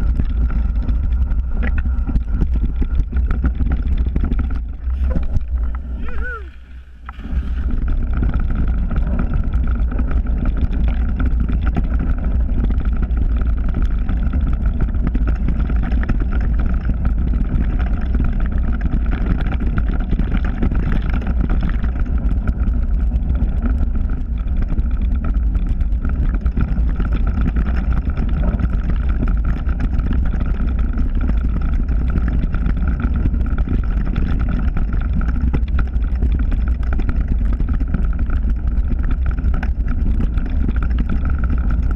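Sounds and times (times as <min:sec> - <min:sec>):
bike tyre and frame rattle: 0:00.0 - 0:41.9
wind rumble on microphone: 0:00.0 - 0:41.9.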